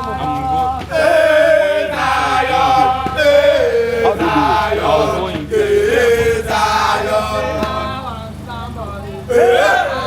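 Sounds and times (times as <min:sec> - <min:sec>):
men singing a chant: 0:00.0 - 0:08.4, 0:09.2 - 0:10.0.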